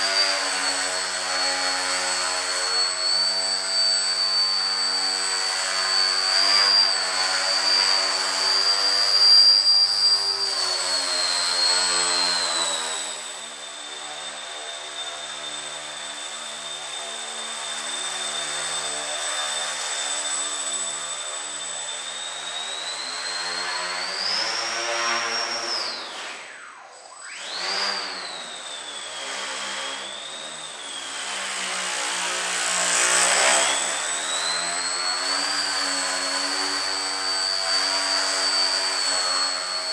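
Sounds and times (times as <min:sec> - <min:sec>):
model plane motor whining: 0:00.0 - 0:39.9.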